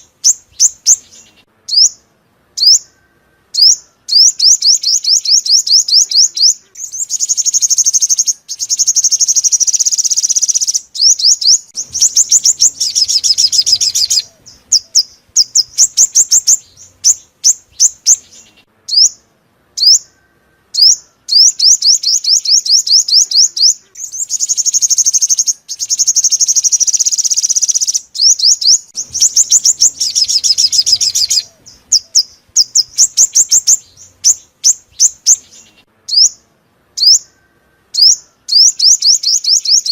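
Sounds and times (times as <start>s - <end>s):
sunbird trilling song: 0.0s - 39.9s.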